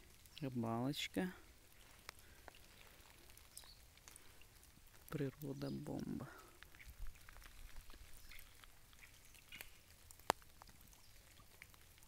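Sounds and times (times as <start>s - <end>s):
raindrops ticking: 0.0s - 12.0s.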